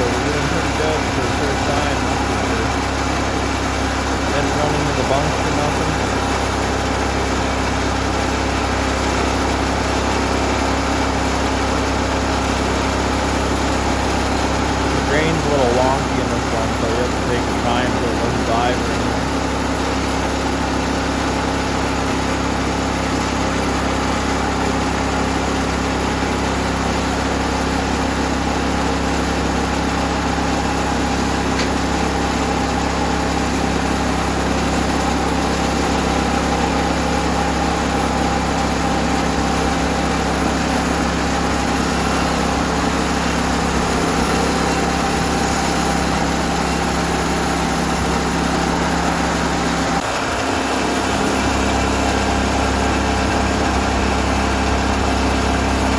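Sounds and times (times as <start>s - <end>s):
saw cutting through log: 0.0s - 55.9s
sawmill engine running: 0.0s - 55.9s.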